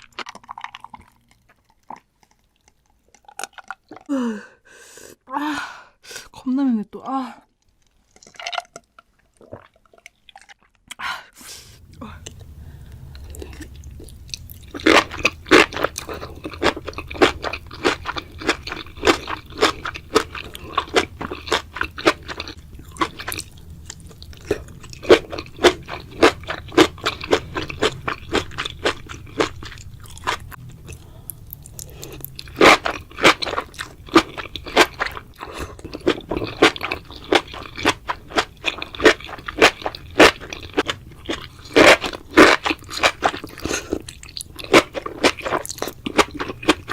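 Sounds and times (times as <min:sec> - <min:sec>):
person chewing crunchy food: 0:00.0 - 0:04.4, 0:07.6 - 0:11.0, 0:11.8 - 0:46.9.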